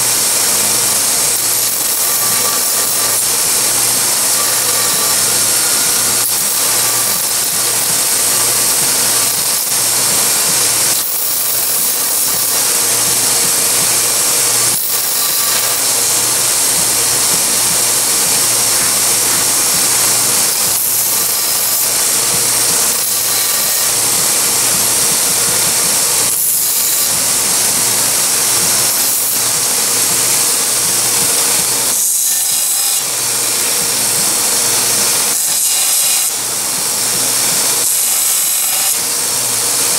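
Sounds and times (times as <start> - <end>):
belt grinder grinding: 0.0 - 39.9.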